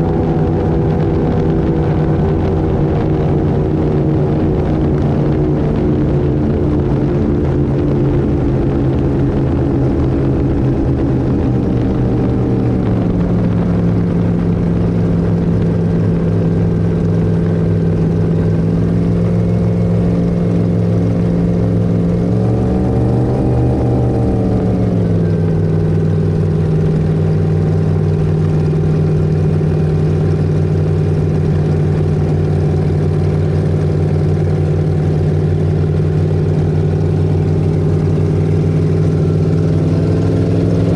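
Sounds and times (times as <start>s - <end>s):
powerboat engines running: 0.0s - 40.9s.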